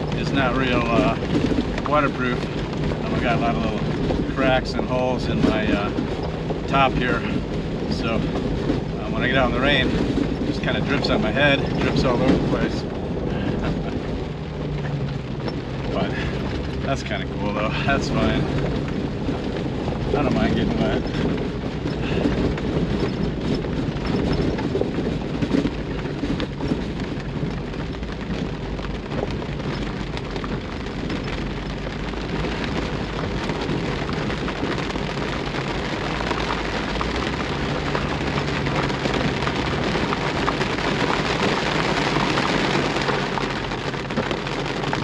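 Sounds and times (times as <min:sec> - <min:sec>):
engine humming: 0:00.0 - 0:45.0
rain pattering on car roof: 0:00.0 - 0:45.0.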